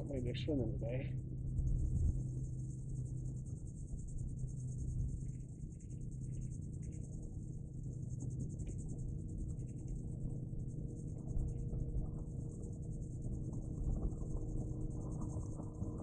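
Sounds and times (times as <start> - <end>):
high pulsing insect-like buzz: 0.0 - 16.0
wind rumbling on microphone: 0.0 - 16.0.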